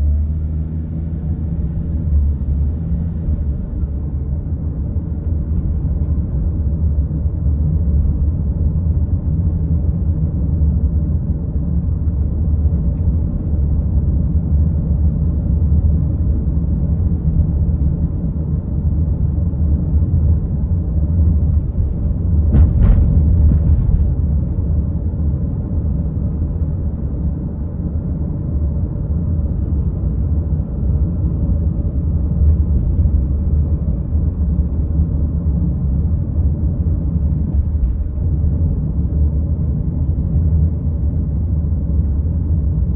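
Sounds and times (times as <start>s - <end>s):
car driving rumble: 0.0s - 42.9s.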